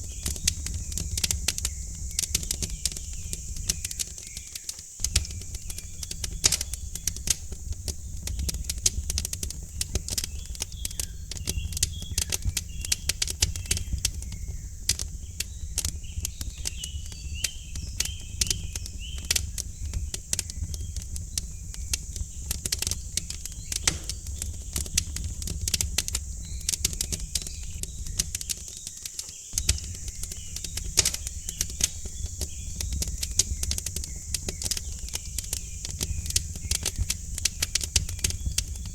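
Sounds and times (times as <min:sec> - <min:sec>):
faint birds chirping: 0:00.0 - 0:38.9
wood fire crackling and popping: 0:00.0 - 0:38.9.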